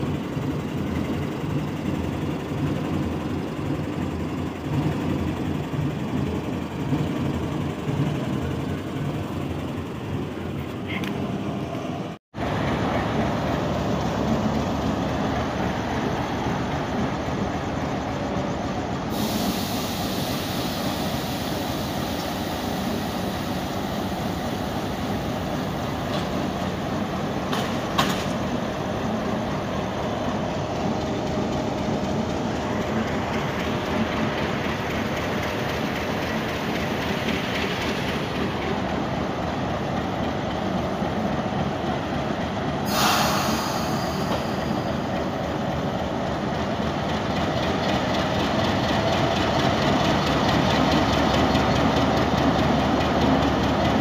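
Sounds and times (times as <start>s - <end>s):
diesel locomotive engine drone: 0.0s - 54.0s
rail noise: 0.0s - 54.0s.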